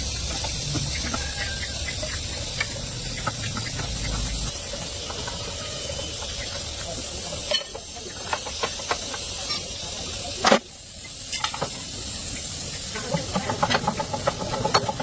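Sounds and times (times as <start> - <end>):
engine running with knocking rhythm: 0.0 - 15.0
steady hiss: 0.0 - 15.0.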